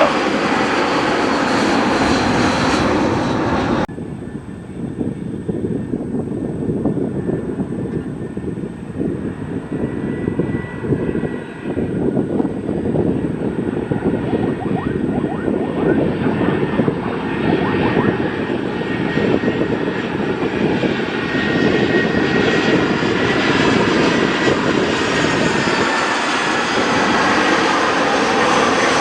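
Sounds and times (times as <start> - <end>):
jet airliner engines running: 0.0 - 29.0.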